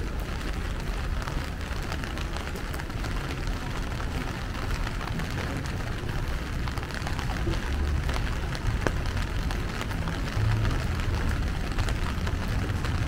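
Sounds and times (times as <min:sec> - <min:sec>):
raindrops ticking close by: 0:00.0 - 0:13.0
steady rain: 0:00.0 - 0:13.0.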